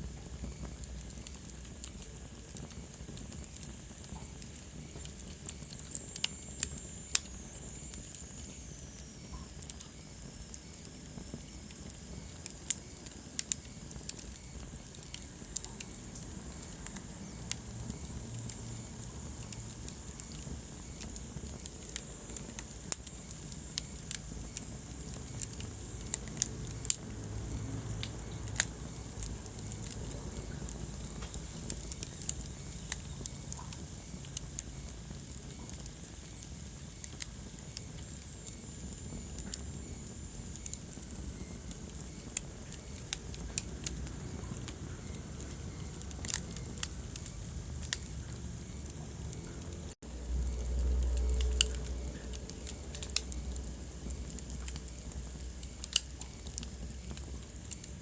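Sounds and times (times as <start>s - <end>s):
low rush of flame: 0.0s - 58.0s
wood fire crackling and popping: 0.0s - 58.0s.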